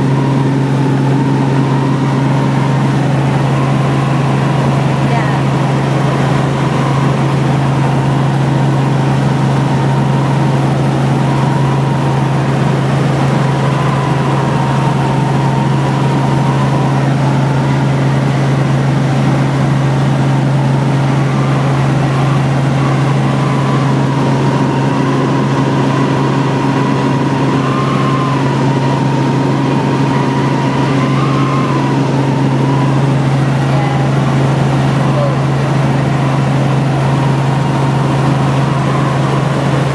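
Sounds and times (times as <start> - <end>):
helicopter cabin drone: 0.0 - 39.9
helicopter whine: 0.0 - 39.9.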